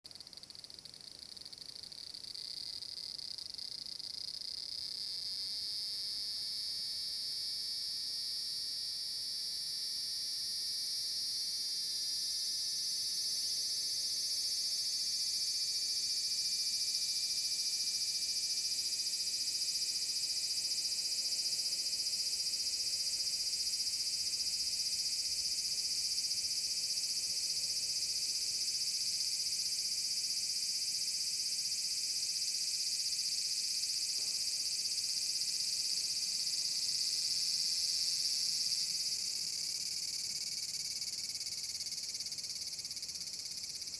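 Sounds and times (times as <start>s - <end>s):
cicadas buzzing: 3.8s - 43.9s.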